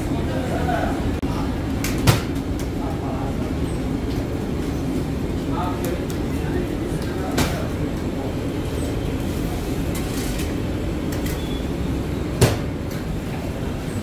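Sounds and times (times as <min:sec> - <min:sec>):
low mechanical rumble of machinery: 0:00.0 - 0:14.0.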